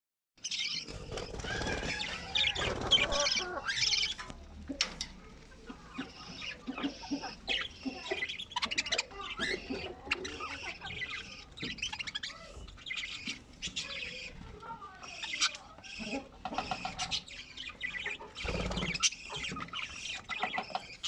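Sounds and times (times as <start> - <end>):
budgerigars chirping: 0.4 - 21.0.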